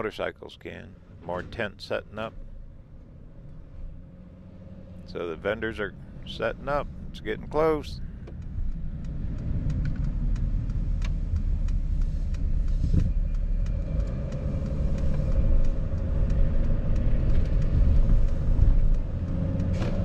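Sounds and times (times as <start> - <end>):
road noise inside cabin: 0.0 - 20.0
van engine hum: 0.0 - 20.0.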